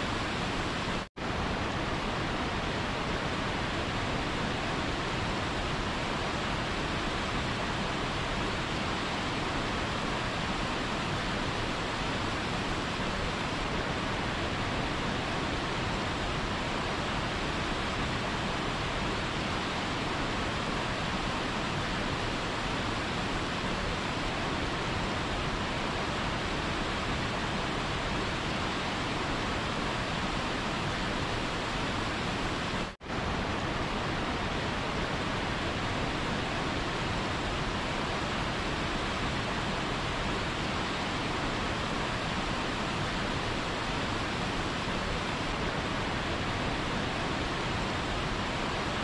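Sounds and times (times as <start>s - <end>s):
waterfall rushing water: 0.0s - 49.0s.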